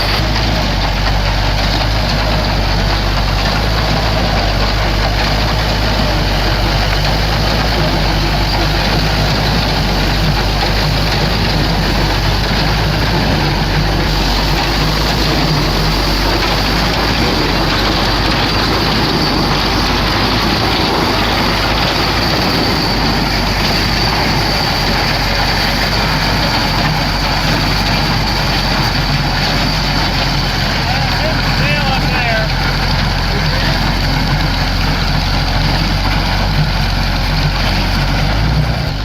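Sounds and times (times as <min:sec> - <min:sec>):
hay baler clatter: 0:00.0 - 0:39.0
tractor engine running: 0:00.0 - 0:39.0.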